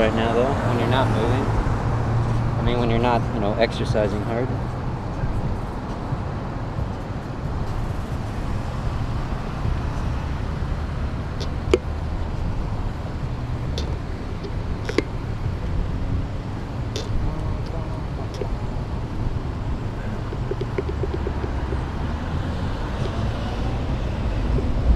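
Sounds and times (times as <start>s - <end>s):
road traffic noise: 0.0s - 24.9s
wind buffeting microphone: 4.5s - 24.9s.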